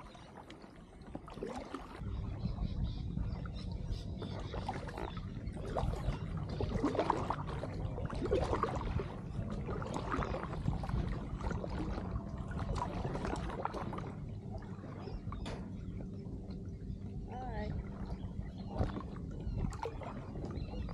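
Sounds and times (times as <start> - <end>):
paddle strokes and splashes: 0.0 - 20.9
steady low rumble: 2.0 - 20.9.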